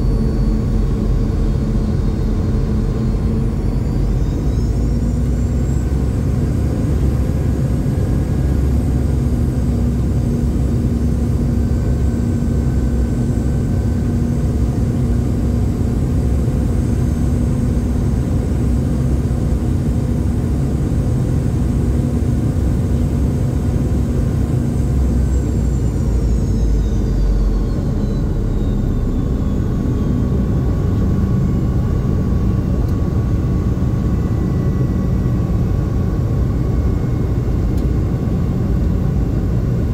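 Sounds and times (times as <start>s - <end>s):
jet engine cabin rumble and whine: 0.0s - 39.9s.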